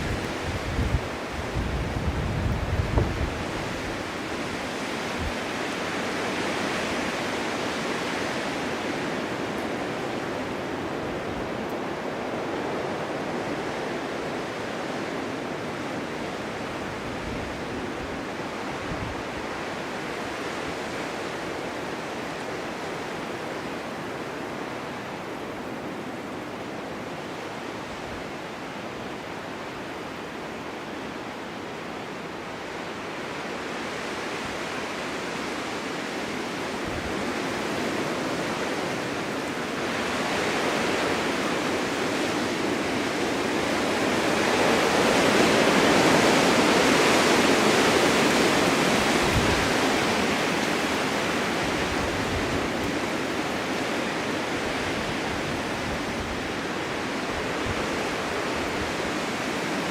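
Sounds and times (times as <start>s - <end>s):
snowstorm wind blowing: 0.0s - 59.9s.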